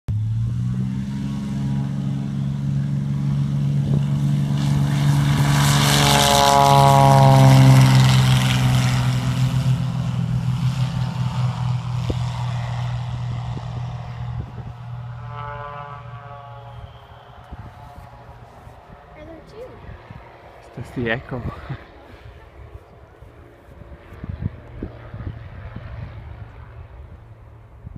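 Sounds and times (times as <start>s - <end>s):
propeller plane engine passing: 0.1s - 27.9s.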